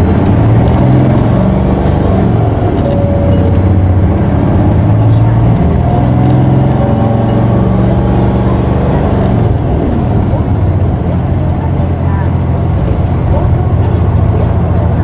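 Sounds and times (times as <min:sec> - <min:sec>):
bus engine accelerating: 0:00.0 - 0:15.0.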